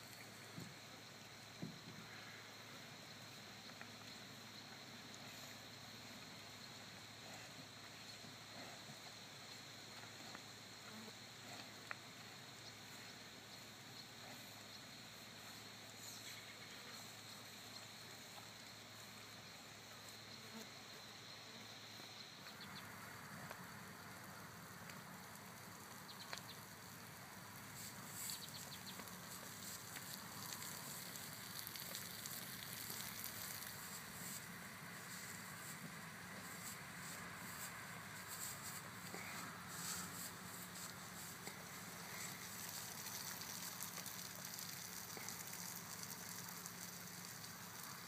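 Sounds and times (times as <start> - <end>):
insect buzz: 0.0 - 24.8, 26.0 - 48.0
soft scattered ticks: 0.0 - 48.0.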